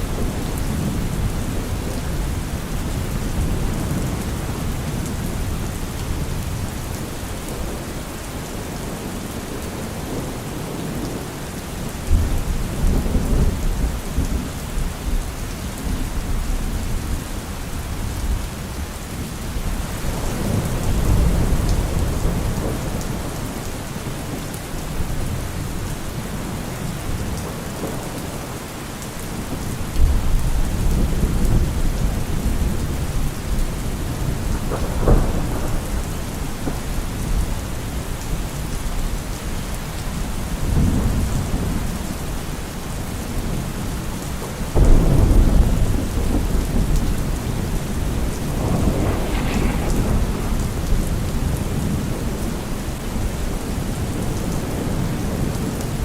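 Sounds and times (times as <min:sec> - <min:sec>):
low rolling thunder: 0:00.0 - 0:11.4, 0:12.0 - 0:23.9, 0:29.3 - 0:39.2, 0:40.1 - 0:56.0
steady rain: 0:00.0 - 0:56.0.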